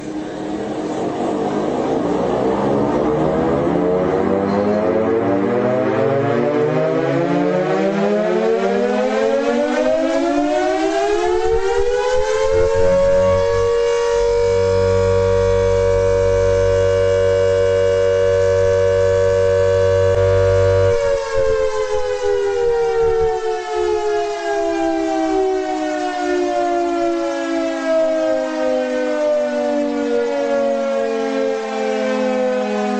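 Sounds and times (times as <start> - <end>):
air-raid siren wailing: 0.0 - 32.9.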